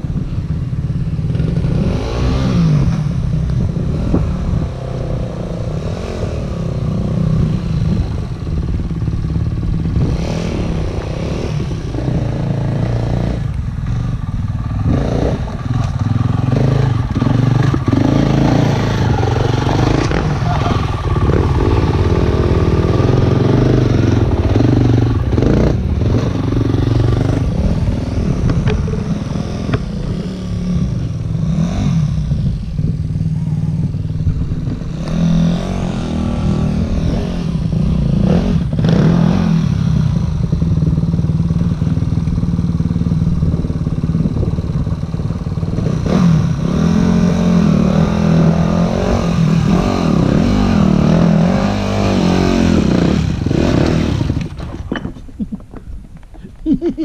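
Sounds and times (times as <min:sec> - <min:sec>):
dirt bike engine revving: 0:01.2 - 0:55.0.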